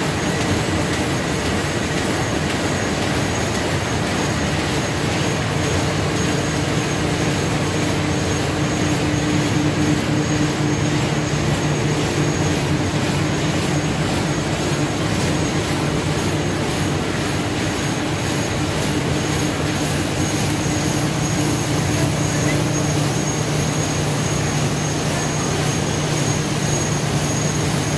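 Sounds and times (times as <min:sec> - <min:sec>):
machine hum with high whine: 0:00.0 - 0:27.9.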